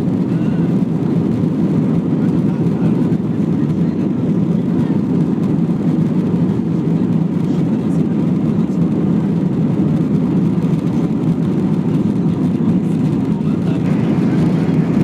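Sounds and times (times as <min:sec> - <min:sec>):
jet airliner cabin rumble: 0:00.0 - 0:15.0.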